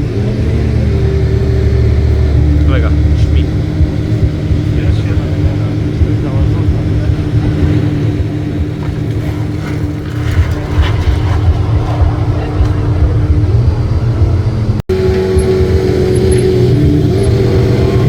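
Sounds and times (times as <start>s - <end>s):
engine running at higher note: 0.0s - 18.0s
supercar engine deep rumble: 0.0s - 18.0s.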